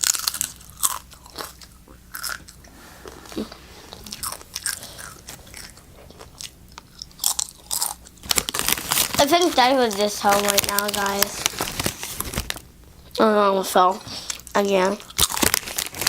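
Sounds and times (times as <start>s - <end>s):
crunching chips: 0.0s - 2.6s, 3.9s - 13.2s, 14.3s - 16.0s.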